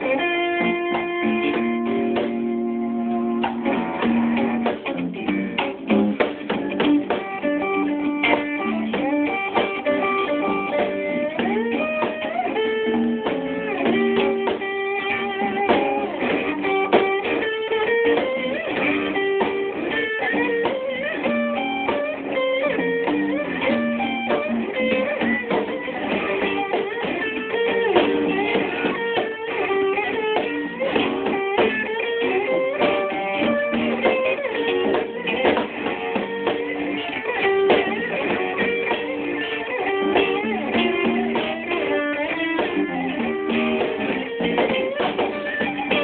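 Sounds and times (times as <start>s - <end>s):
plucked guitar lead lines: 0.0s - 46.0s
strummed guitar chords: 0.0s - 46.0s.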